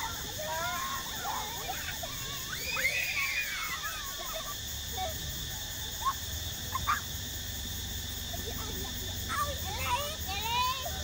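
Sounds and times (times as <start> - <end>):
children squealing and calling out: 0.0 - 7.3, 8.4 - 11.0
high background hiss: 0.0 - 11.0.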